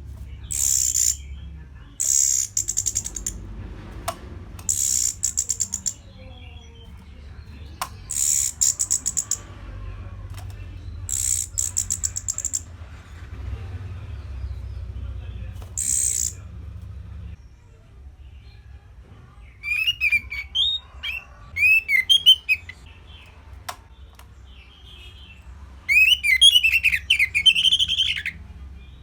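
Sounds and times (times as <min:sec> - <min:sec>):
thrush singing trills: 0:00.2 - 0:03.6, 0:04.5 - 0:09.8, 0:10.4 - 0:12.7, 0:14.1 - 0:17.2, 0:19.4 - 0:29.0.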